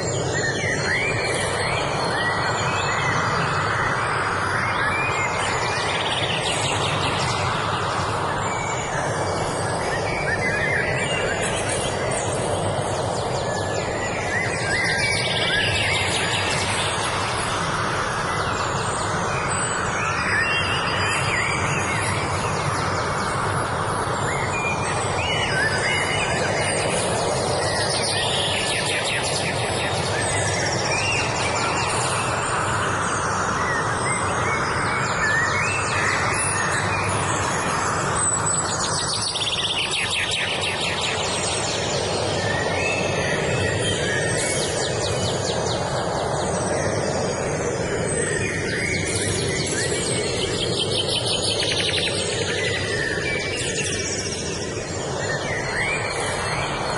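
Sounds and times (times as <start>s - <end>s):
songbirds chirping and singing: 0.0s - 56.9s
steady background noise: 0.0s - 56.9s.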